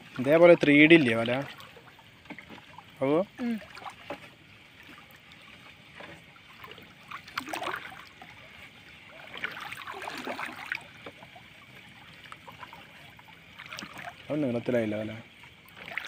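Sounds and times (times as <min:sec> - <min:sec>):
water splashing and dripping: 0:00.0 - 0:16.0.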